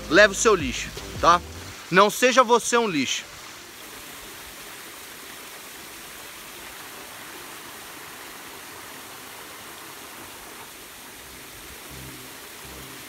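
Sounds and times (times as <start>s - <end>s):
waterfall onto boulders: 0.0s - 13.0s.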